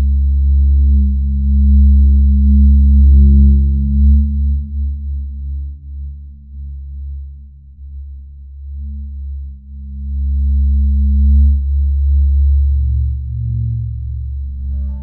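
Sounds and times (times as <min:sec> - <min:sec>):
synthesized ambient drone: 0:00.1 - 0:15.0.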